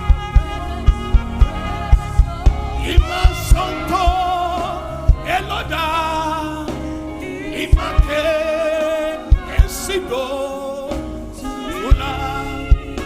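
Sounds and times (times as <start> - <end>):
sustained chords: 0.0 - 13.0.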